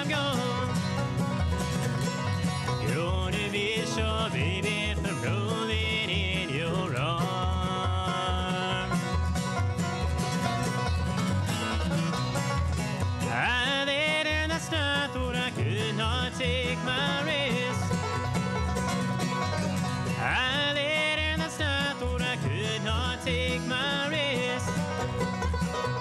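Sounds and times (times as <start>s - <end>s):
bluegrass band playing: 0.0s - 26.0s.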